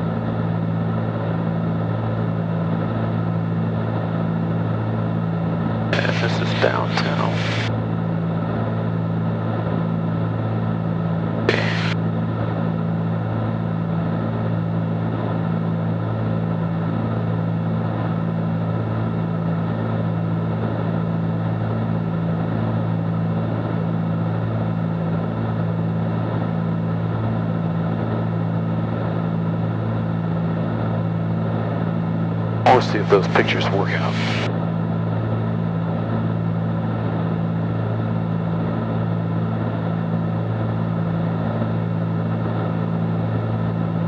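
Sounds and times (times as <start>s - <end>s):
aircraft engines droning in cabin: 0.0s - 44.0s.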